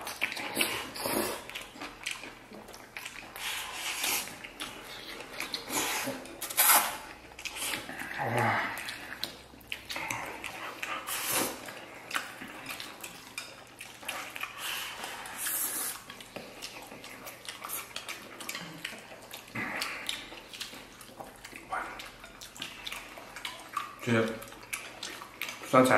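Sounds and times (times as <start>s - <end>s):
people slurping and chewing: 0.0s - 25.9s.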